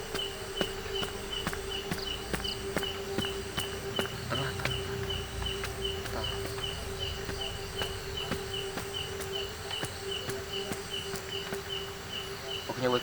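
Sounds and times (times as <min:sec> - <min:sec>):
wooden stick knocking into soil: 0:00.0 - 0:11.9
night insects chirping: 0:00.0 - 0:13.0.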